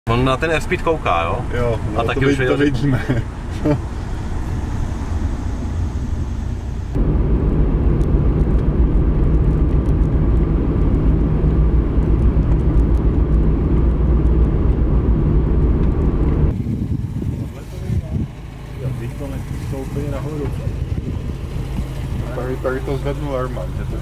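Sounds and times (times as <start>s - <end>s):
car engine and tyre rumble: 0.1s - 24.0s.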